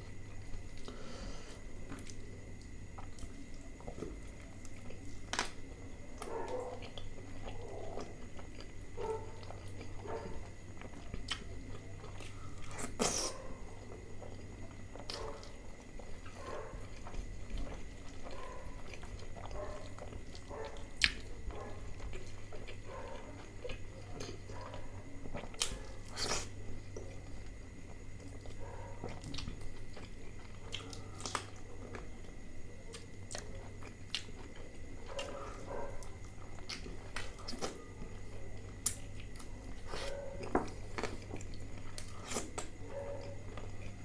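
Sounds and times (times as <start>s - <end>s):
person chewing food: 0.1s - 44.0s.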